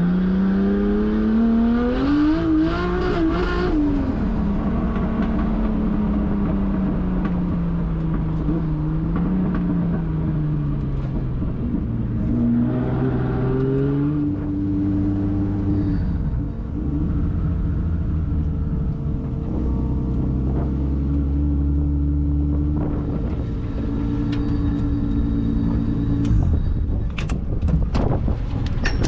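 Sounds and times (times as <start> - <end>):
car engine revving: 0.0 - 26.6.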